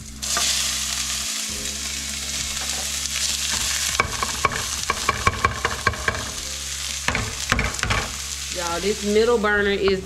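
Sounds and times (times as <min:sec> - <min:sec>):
onions sizzling in a frying pan: 0:00.0 - 0:10.0.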